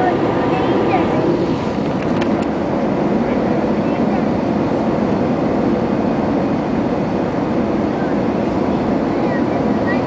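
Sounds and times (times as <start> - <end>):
airliner cabin noise: 0.0 - 10.0.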